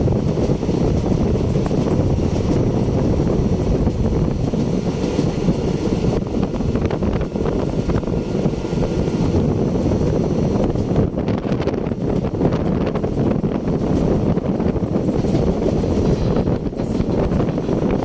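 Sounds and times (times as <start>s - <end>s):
moving train rumble: 0.0s - 18.0s
wind buffeting microphone: 0.0s - 18.0s.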